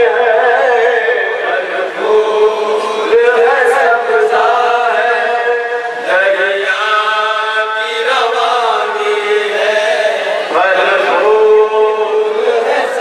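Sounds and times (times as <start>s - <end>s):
man singing lament: 0.0s - 13.0s
men chanting: 0.0s - 13.0s.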